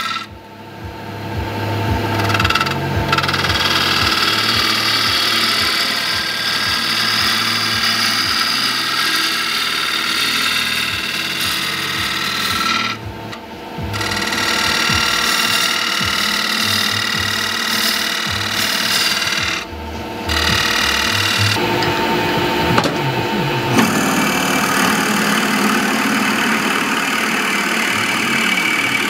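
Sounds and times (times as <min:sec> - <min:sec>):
lathe tool scraping wood: 0:00.0 - 0:00.3, 0:01.6 - 0:22.7, 0:23.7 - 0:29.0
wood lathe humming: 0:00.0 - 0:29.0.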